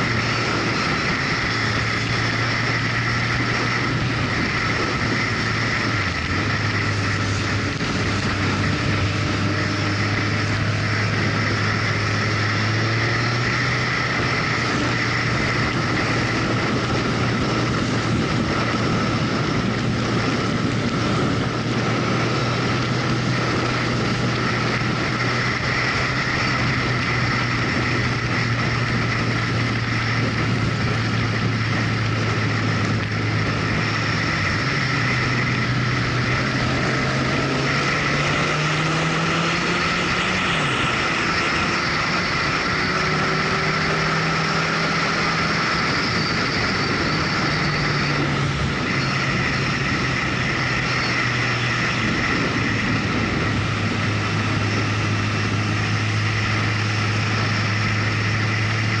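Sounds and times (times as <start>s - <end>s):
motorcycle engine running: 0.0s - 59.0s
wind rush over microphone: 0.0s - 59.0s.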